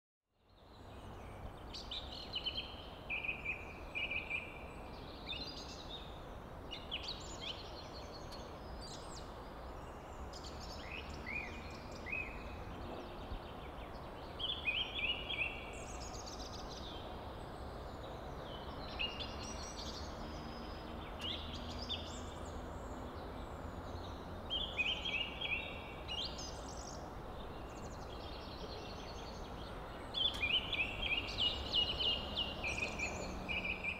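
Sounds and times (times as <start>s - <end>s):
open-air background hiss: 0.3s - 33.9s
birds singing and chirping: 0.4s - 33.9s.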